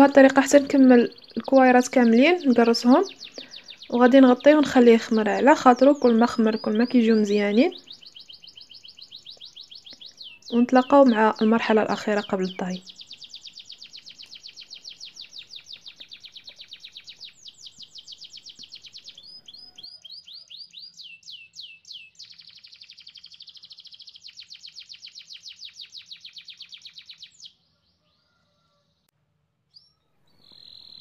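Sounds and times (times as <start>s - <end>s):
songbird singing trills: 0.0s - 28.4s, 29.7s - 31.0s.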